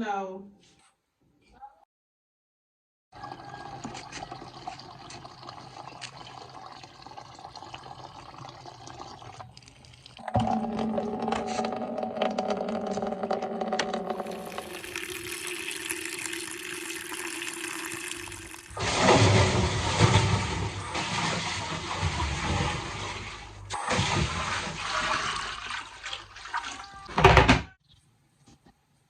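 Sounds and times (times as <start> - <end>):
water pouring into a container: 3.2 - 27.1.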